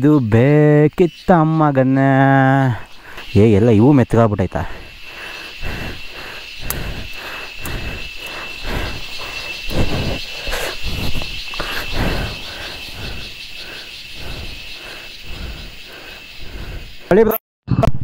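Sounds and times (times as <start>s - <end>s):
insects buzzing: 0.0s - 17.4s.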